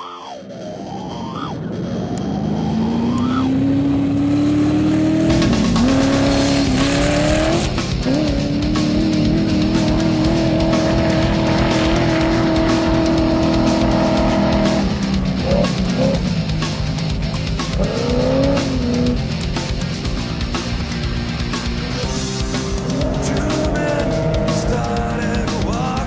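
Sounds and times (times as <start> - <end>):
race truck engine revving: 0.0 - 26.0
loud rock music: 0.4 - 26.0.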